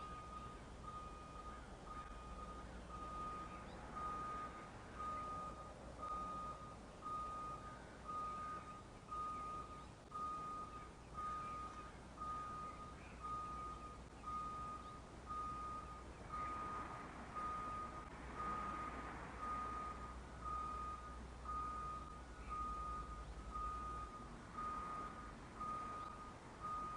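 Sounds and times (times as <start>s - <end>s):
reverse alarm beeping: 0.0s - 26.9s
vehicle noise: 0.0s - 26.9s.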